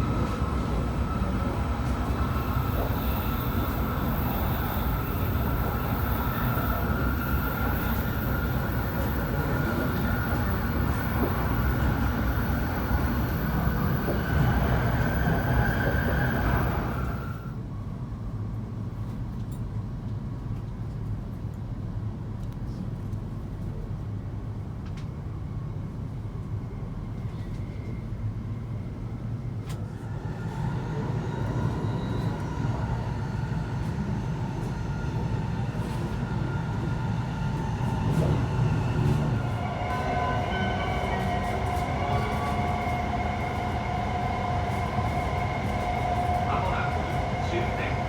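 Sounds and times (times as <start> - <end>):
train rolling rumble: 0.0 - 48.0.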